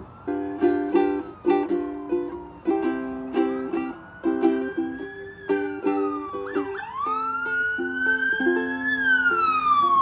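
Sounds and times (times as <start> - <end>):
ukulele strumming: 0.0 - 10.0.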